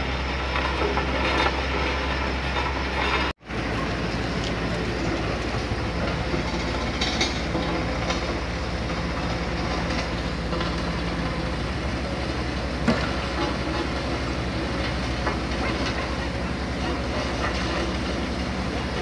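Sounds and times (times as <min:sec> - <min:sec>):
road roller diesel engine rumbling: 0:00.0 - 0:19.0.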